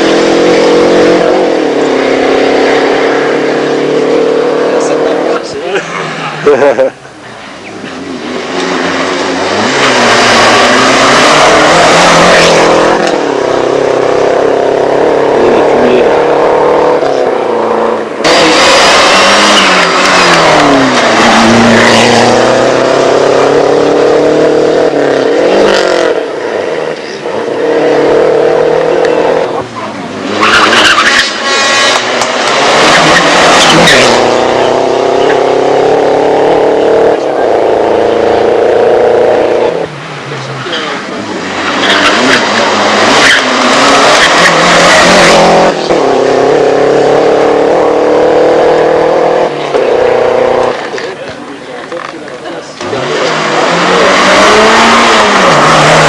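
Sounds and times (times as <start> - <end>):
rally cars revving past: 0.0 - 7.0, 7.7 - 51.2, 52.7 - 56.0.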